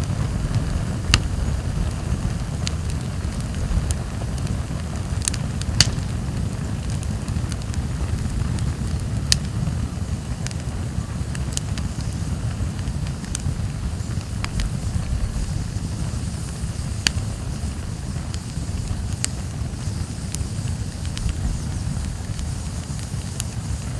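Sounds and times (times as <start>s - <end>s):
campfire low rush: 0.0s - 23.9s
fire crackles and pops: 0.0s - 23.9s.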